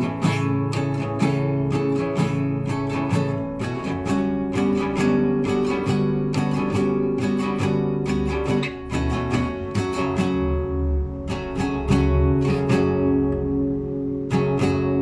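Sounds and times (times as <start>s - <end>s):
classical guitar arpeggios: 0.0s - 15.0s.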